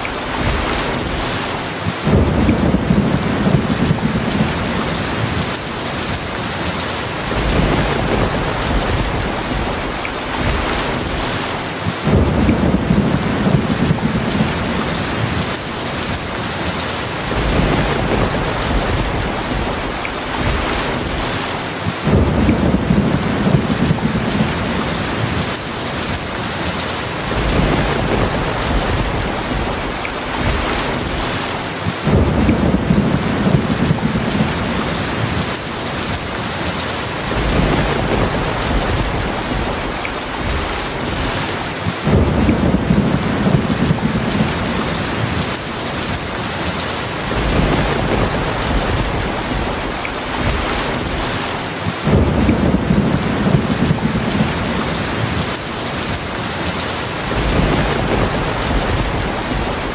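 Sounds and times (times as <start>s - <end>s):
low thunder rumbling: 0.0s - 6.4s, 7.0s - 59.9s
heavy rain hissing: 0.0s - 59.9s.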